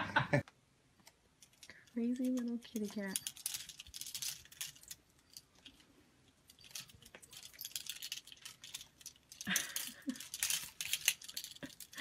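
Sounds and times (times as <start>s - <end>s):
clothes hangers clicking and rattling: 1.4s - 12.0s.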